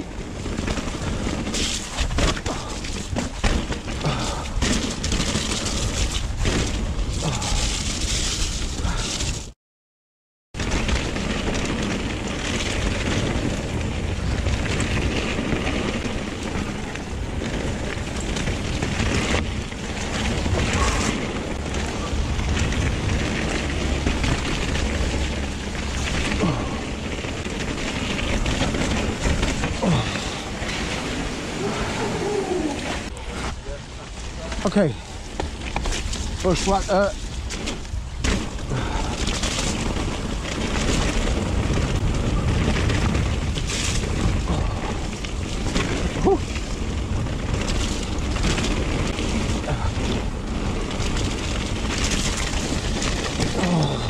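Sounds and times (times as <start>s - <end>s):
bike rattling over rough ground: 0.0s - 9.6s, 10.6s - 54.0s
wind buffeting microphone: 10.6s - 54.0s.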